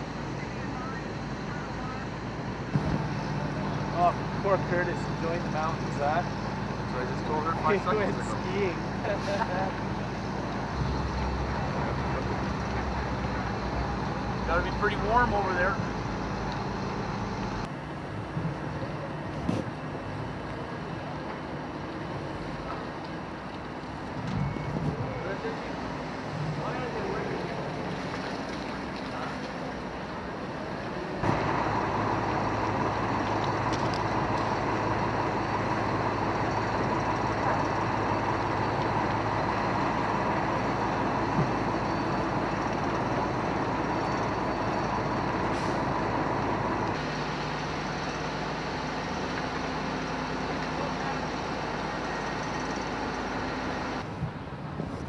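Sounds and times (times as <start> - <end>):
heavy engines droning: 0.0 - 55.0.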